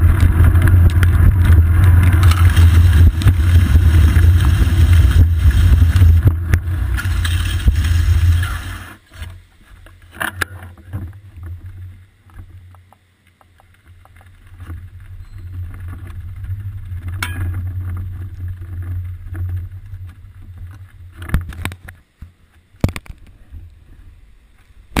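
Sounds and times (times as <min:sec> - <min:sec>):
bicycle rolling over wet pavement: 0:00.0 - 0:21.8.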